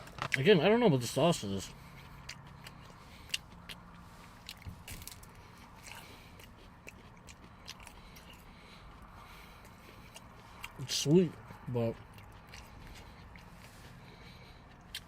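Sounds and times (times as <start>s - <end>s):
person chewing food: 1.4s - 15.0s.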